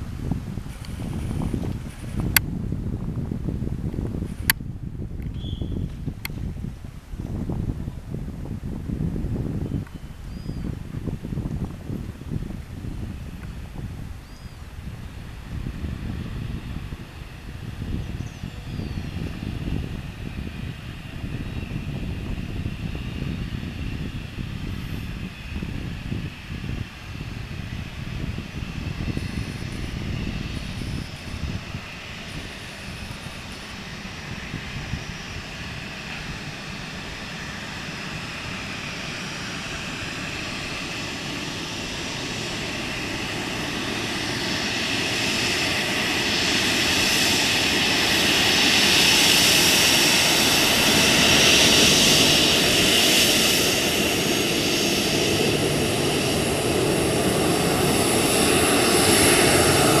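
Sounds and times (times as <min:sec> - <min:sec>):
jet engines roaring and whining: 0:00.0 - 1:00.0.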